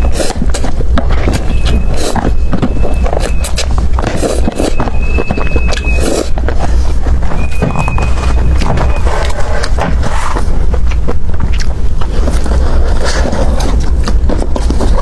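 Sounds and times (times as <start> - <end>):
chewing and mouth noises: 0.0 - 15.0
steady low rumble: 0.0 - 15.0.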